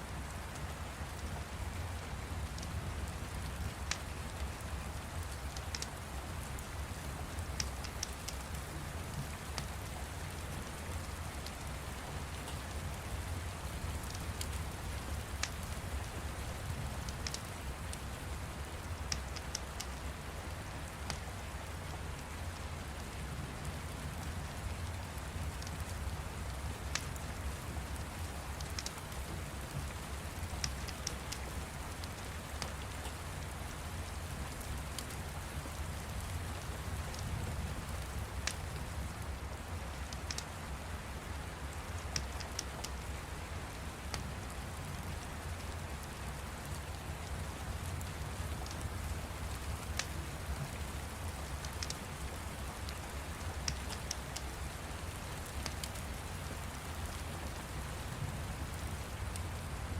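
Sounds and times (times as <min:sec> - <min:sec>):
steady rain: 0:00.0 - 0:59.9
fire crackling: 0:02.2 - 0:59.9.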